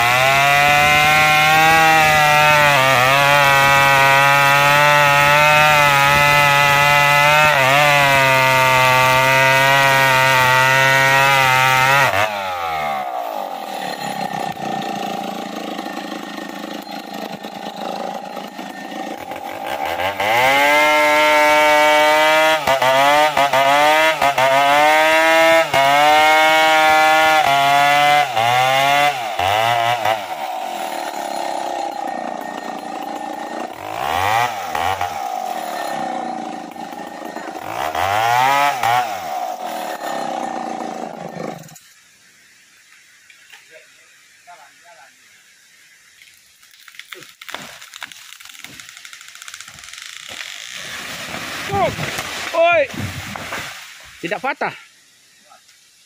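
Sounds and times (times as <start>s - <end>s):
chainsaw cutting wood: 0.0s - 42.0s, 46.5s - 54.4s.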